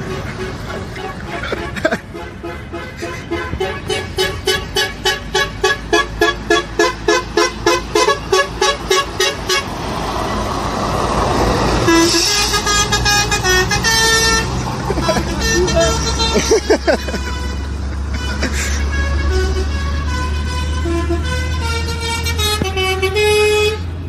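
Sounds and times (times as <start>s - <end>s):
lorry horn tooting: 0.0s - 9.7s, 11.8s - 24.0s
lorry passing by: 0.0s - 24.0s.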